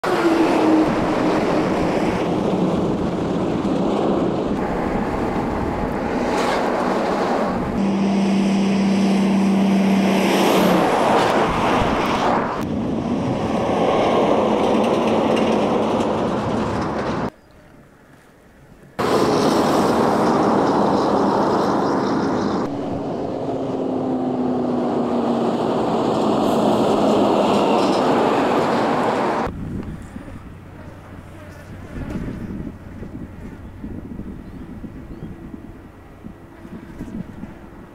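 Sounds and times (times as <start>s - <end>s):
trucks driving past: 0.0s - 17.4s, 19.0s - 37.9s.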